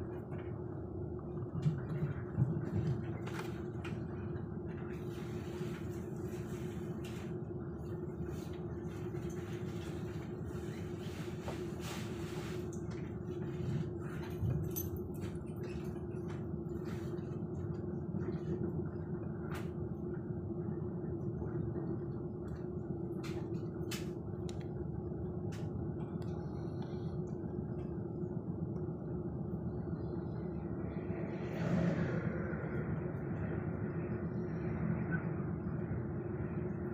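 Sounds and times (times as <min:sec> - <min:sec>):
constant hum: 0:00.0 - 0:36.9
train running gear rumble: 0:00.0 - 0:36.9.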